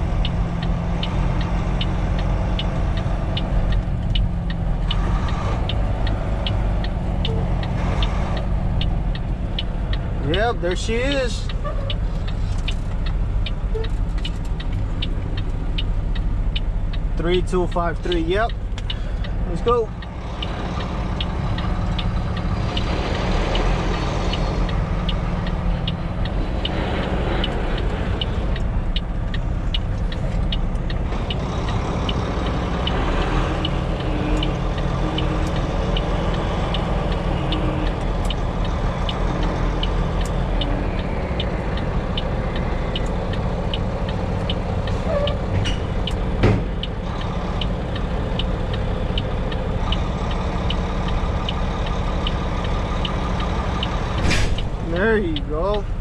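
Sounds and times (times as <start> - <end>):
truck diesel engine running: 0.0 - 56.0
turn signal ticking: 0.0 - 56.0.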